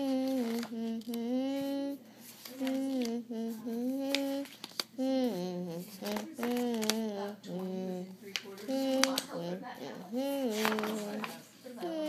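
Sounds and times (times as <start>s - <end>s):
child humming: 0.0s - 8.1s, 8.7s - 11.1s, 11.8s - 12.0s.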